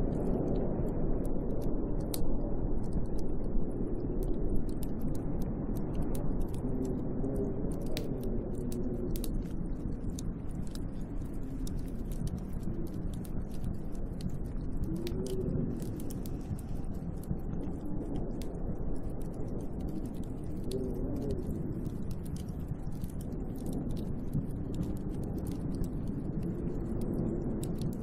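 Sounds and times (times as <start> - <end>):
light ticks: 0.0 - 28.0
snowstorm wind blowing: 0.0 - 28.0.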